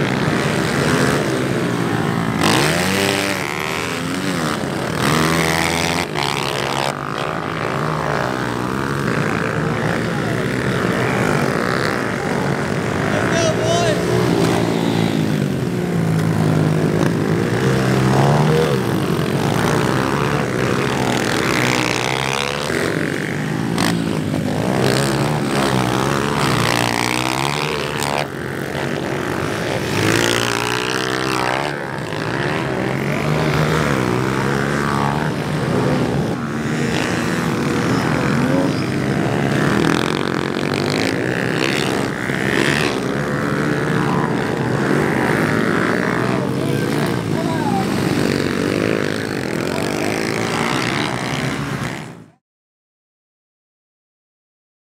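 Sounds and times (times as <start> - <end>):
pit bike engines revving: 0.0 - 52.4.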